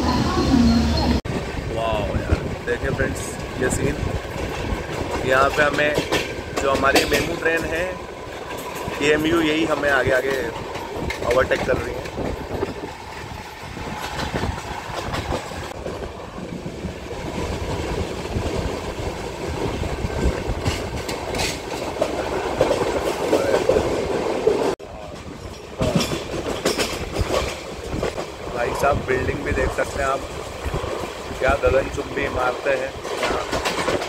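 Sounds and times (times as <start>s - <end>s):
train wheels rumbling on rails: 0.0s - 34.0s
wheels clicking over rail joints: 2.3s - 34.0s.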